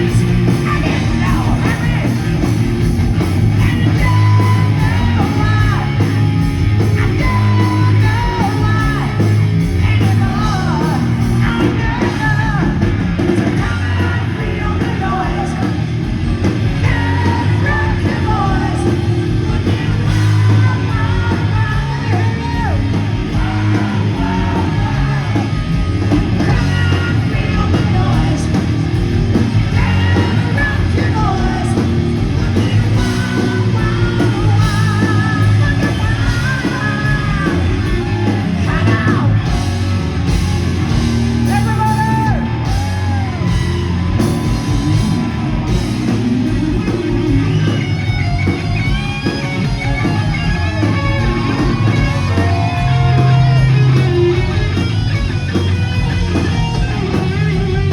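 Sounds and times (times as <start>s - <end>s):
drums: 0.0s - 57.9s
electric guitar: 0.0s - 57.9s.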